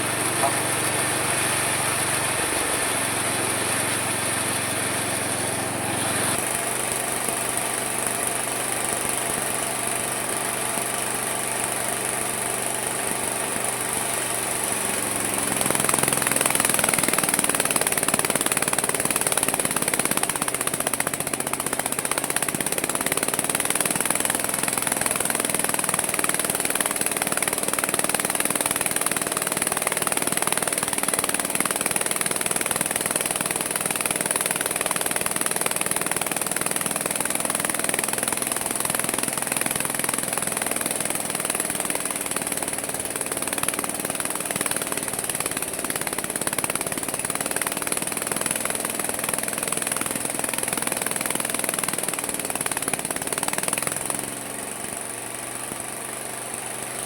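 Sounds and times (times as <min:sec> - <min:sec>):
sawmill motor running: 0:00.0 - 0:57.0.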